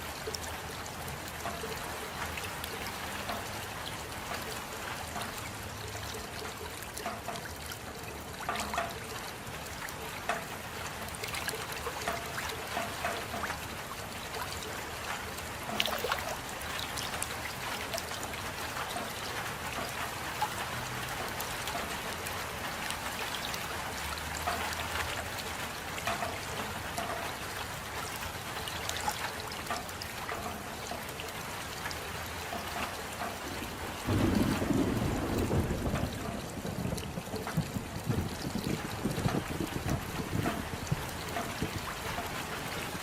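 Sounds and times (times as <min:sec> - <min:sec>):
steady rain: 0:00.0 - 0:43.0
ticks of individual raindrops: 0:00.0 - 0:43.0
trickling water: 0:00.0 - 0:43.0.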